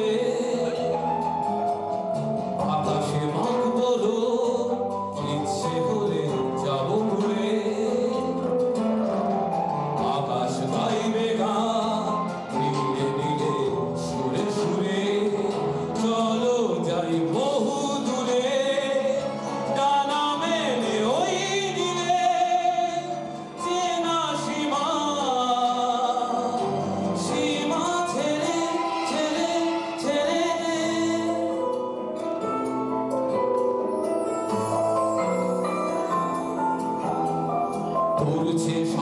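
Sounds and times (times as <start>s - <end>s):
man singing into microphone: 0.0s - 1.7s, 2.5s - 8.8s, 9.8s - 32.2s, 37.9s - 39.0s
instrumental backing music: 0.0s - 39.0s.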